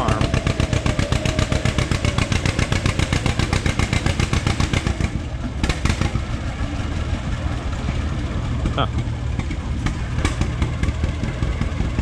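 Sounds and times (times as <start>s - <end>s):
tractor engine exhaust popping: 0.0s - 12.0s.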